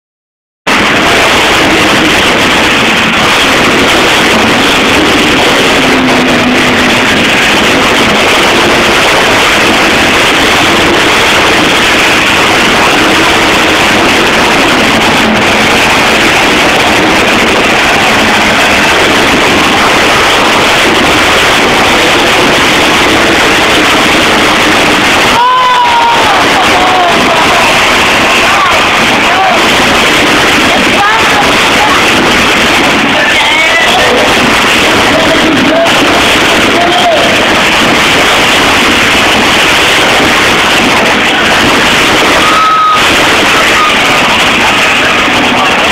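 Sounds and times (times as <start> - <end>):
monster truck engine revving: 0.7 - 45.9.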